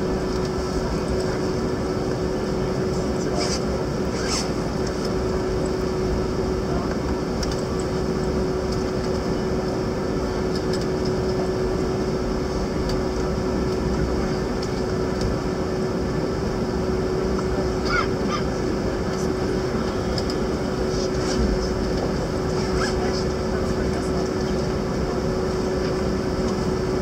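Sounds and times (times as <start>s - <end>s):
jet engine idling hum: 0.0s - 27.0s.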